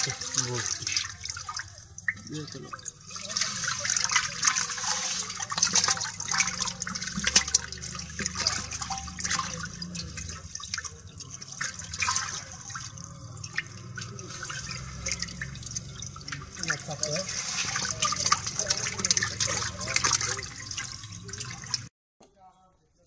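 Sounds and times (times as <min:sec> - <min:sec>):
fish thrashing in water: 0:00.0 - 0:21.9
water splashing in metal basin: 0:00.0 - 0:21.9.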